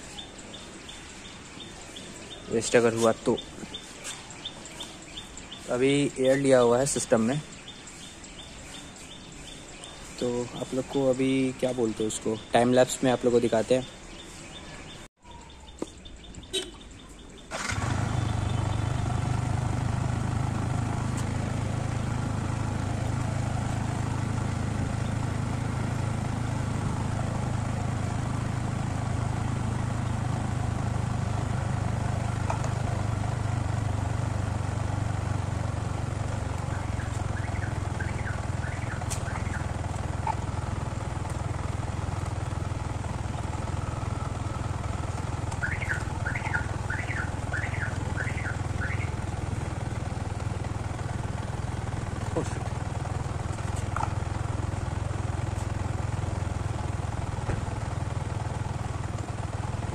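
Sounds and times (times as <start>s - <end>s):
motorcycle engine idling: 0.0s - 14.9s, 15.5s - 59.9s.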